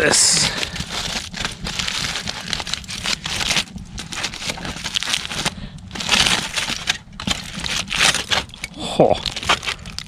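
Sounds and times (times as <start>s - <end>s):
foil crinkling and rustling: 0.0s - 10.0s.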